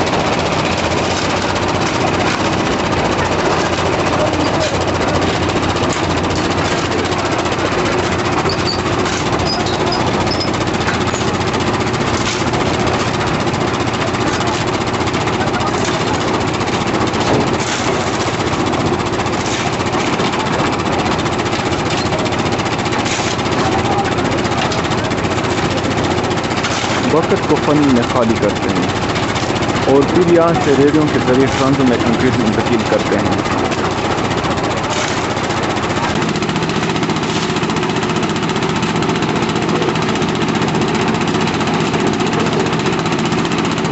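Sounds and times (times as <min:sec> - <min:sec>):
machinery engine running: 0:00.0 - 0:43.9.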